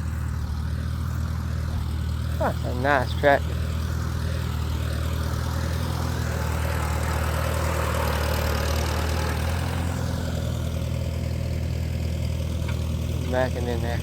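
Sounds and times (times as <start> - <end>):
higher rushing engine noise: 0.0 - 14.0
tractor engine idling: 0.0 - 14.0.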